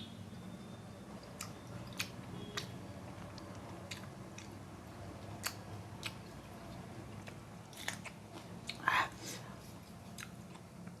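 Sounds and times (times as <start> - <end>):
person chewing: 1.2 - 11.0.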